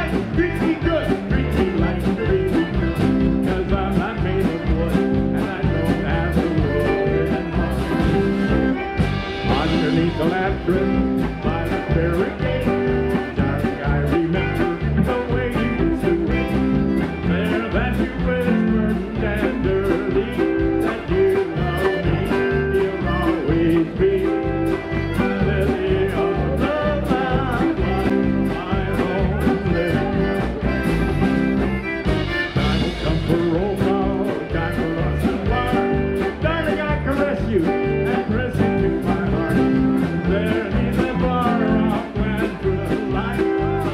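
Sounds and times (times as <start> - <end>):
man singing: 0.0 - 43.9
piano accordion: 0.0 - 43.9
polka band playing: 0.0 - 43.9
steady drum beat: 0.0 - 43.9.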